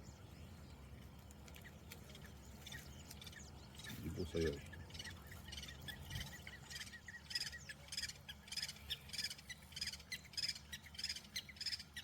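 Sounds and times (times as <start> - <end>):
low steady hum: 0.0 - 12.0
birds alarm calls: 1.4 - 12.0.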